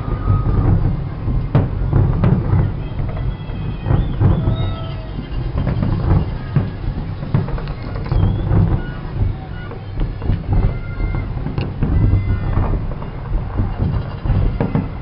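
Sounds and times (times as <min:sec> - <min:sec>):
fireworks booming and cracking: 0:00.0 - 0:15.0
fireworks whistling: 0:00.0 - 0:15.0.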